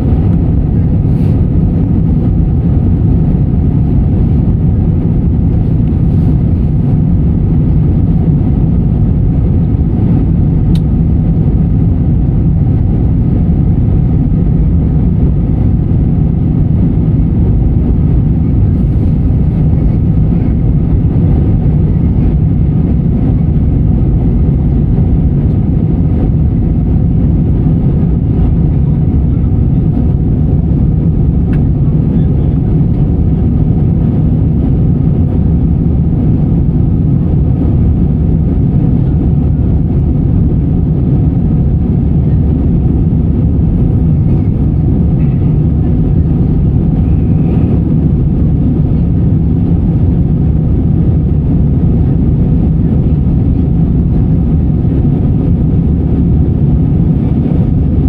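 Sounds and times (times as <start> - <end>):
aircraft engine and airflow rumble: 0.0 - 58.0.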